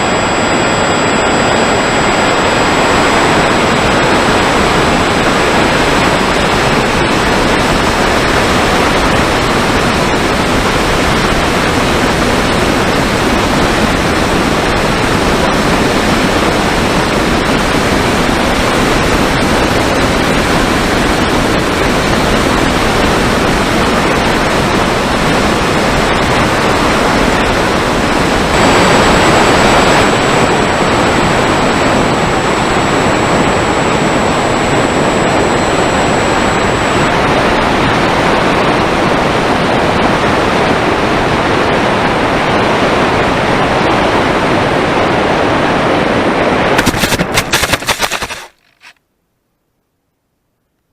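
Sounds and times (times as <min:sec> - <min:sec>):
motor and propeller whine: 0:00.0 - 0:49.0.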